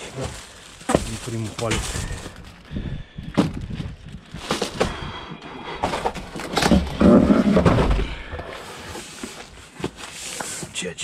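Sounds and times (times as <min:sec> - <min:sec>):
boxes knocking and clattering: 0:00.0 - 0:02.5, 0:03.3 - 0:05.1, 0:05.7 - 0:10.8.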